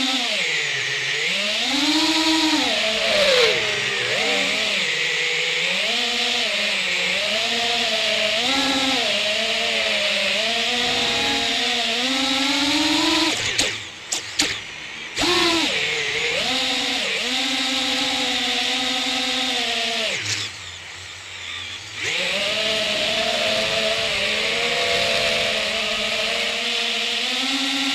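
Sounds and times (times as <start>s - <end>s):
quadcopter propellers buzzing: 0.0s - 27.9s.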